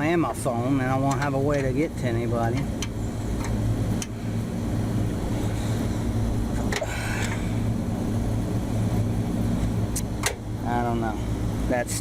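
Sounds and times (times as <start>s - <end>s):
air conditioning electrical hum: 0.0s - 12.0s.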